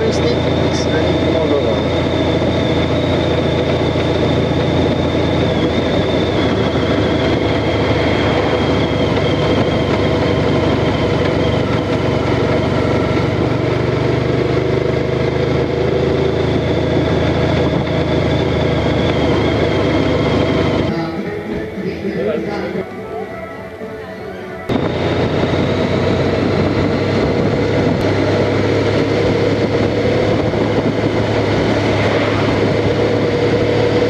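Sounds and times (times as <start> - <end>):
motorcycle engine running: 0.0 - 22.5, 24.7 - 34.0.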